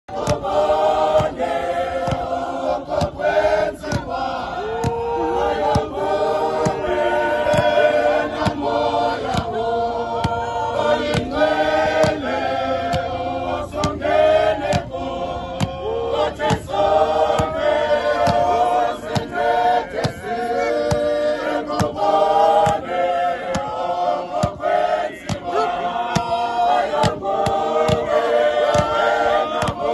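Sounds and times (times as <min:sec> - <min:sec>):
congregation singing a hymn: 0:00.1 - 0:29.9
regular sharp beat: 0:00.1 - 0:29.9.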